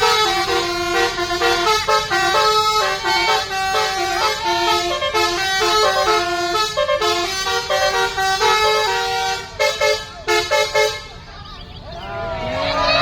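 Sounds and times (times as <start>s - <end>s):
musical air horn playing a tune: 0.0s - 11.2s.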